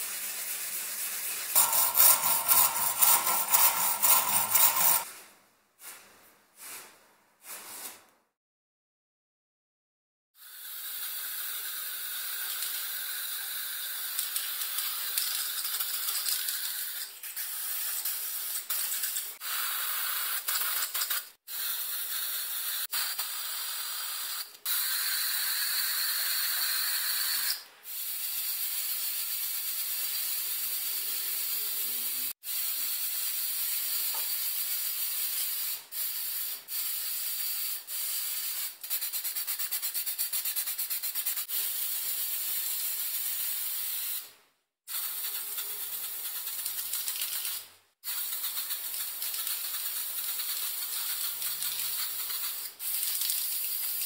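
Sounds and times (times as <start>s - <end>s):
spray paint hissing: 0.0s - 5.1s, 10.4s - 44.3s, 44.9s - 54.0s.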